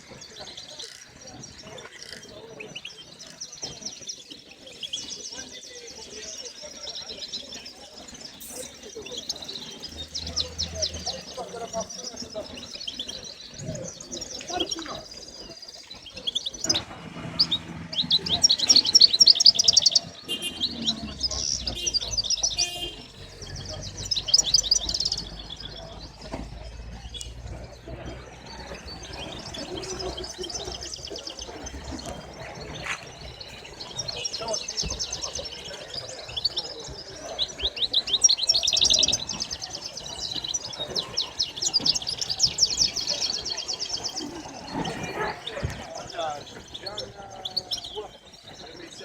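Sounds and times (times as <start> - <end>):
songbirds chirping and singing: 0.0 - 49.0.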